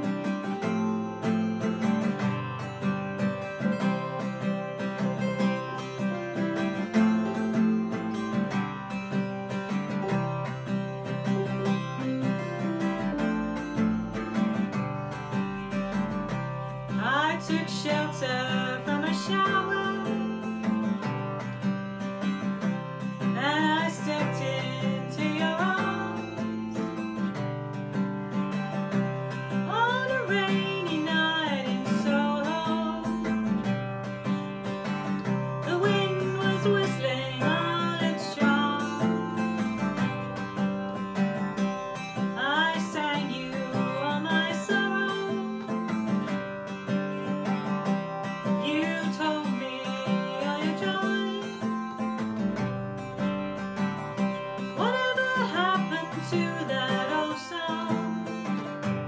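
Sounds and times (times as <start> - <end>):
acoustic guitar: 0.0 - 59.0
bending lead melody: 0.0 - 59.0.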